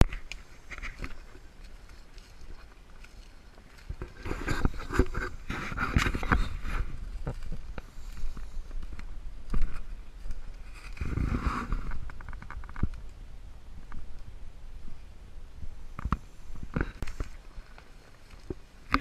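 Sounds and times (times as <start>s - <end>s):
handling noise at microphone: 0.0s - 13.0s, 15.9s - 19.0s.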